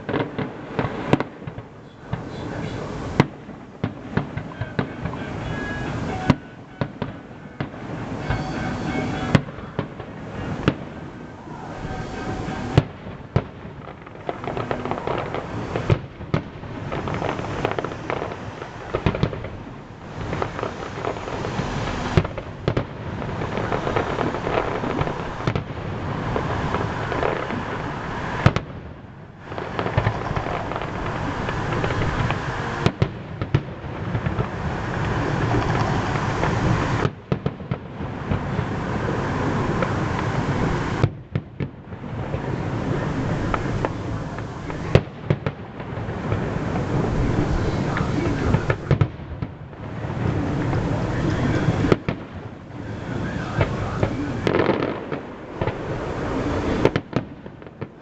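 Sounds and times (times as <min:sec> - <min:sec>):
fireworks bursts and crackling: 0:00.0 - 0:58.0
loud firework bangs: 0:00.0 - 0:58.0.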